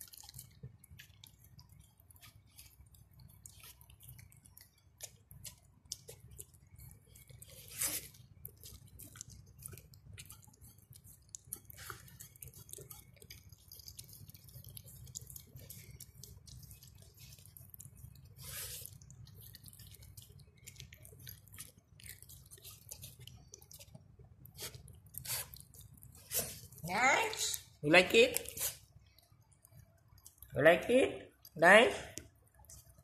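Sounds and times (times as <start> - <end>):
dog licking and chewing: 0.0 - 33.0.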